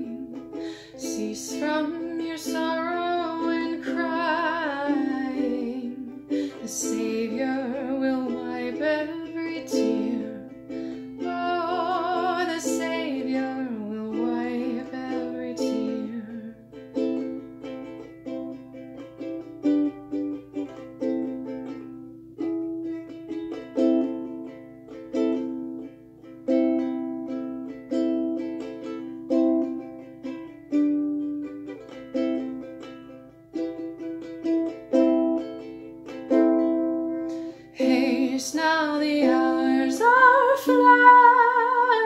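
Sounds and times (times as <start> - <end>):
ukulele chords: 0.0 - 42.0.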